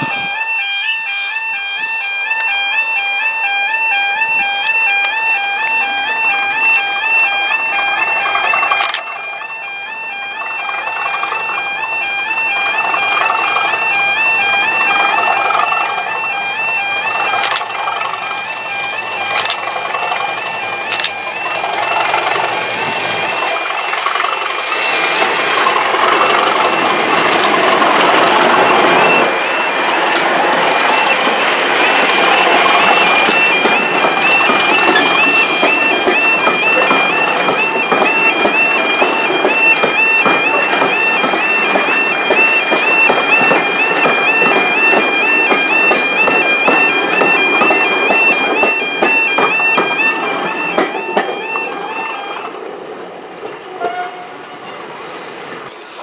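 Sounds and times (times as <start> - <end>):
high two-tone electronic beeping: 0.0 - 24.0, 24.6 - 52.5
level crossing alarm warbling: 0.0 - 54.9
diesel locomotive engine working hard: 0.0 - 56.0
passing train rumbling: 0.0 - 56.0.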